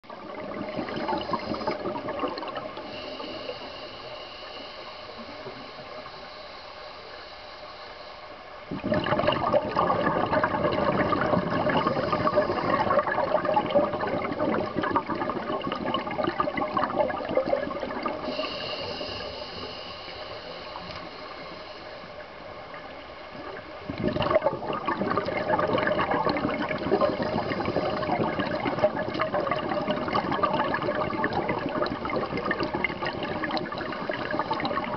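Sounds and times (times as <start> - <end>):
regulator bubbling underwater: 0.0 - 7.3, 8.6 - 34.9.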